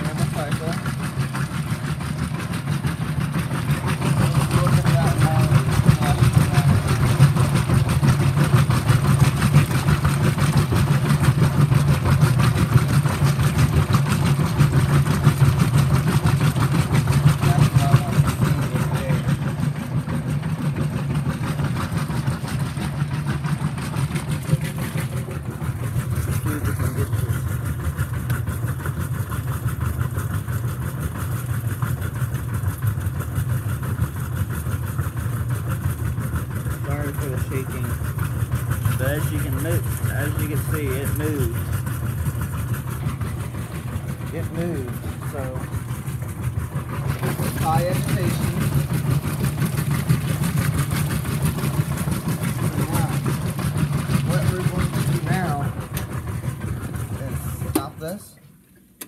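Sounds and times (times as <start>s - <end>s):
washing machine agitating: 0.0s - 59.0s.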